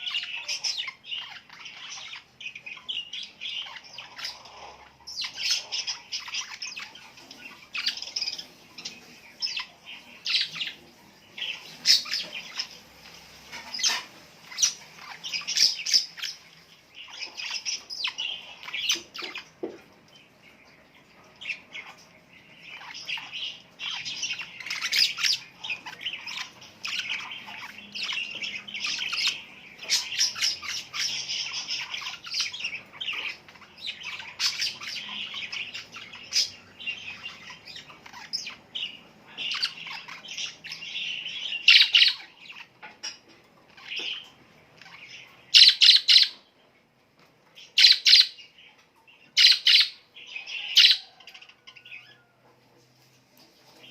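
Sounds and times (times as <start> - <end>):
birds chirping and squawking: 0.0 - 53.9.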